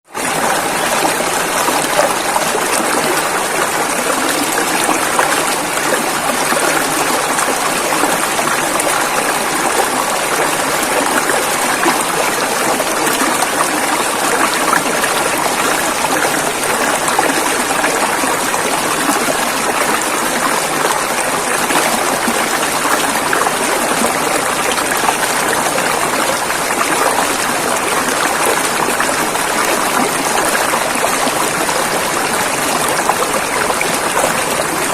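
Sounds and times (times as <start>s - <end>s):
river running over rocks: 0.1s - 34.9s.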